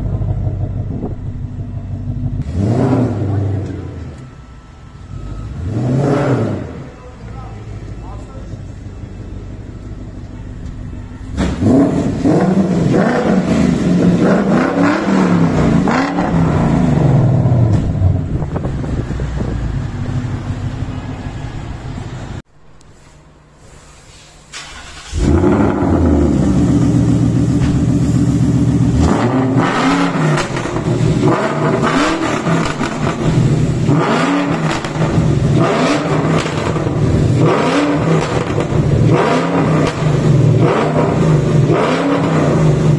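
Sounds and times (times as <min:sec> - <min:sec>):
car engine revving: 0:00.0 - 0:22.4, 0:24.6 - 0:42.9.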